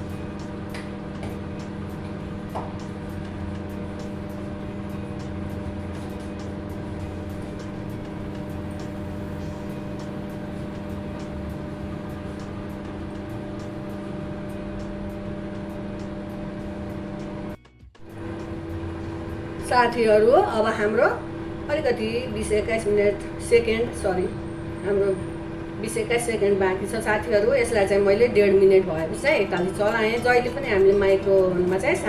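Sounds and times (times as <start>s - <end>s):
fan whirring: 0.0s - 32.0s
microwave oven humming: 0.0s - 32.0s.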